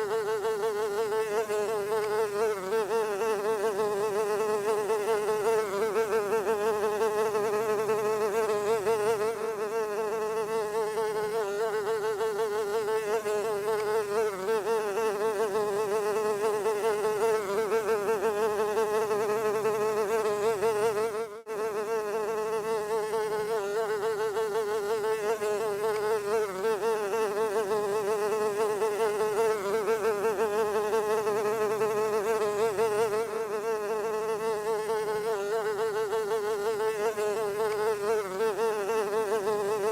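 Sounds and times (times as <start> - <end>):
fly buzzing: 0.0 - 39.9.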